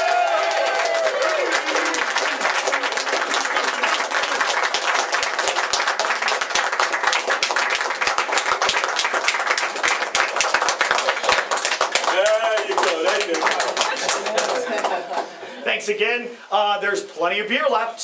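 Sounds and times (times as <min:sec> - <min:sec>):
crowd applauding: 0:00.0 - 0:15.4.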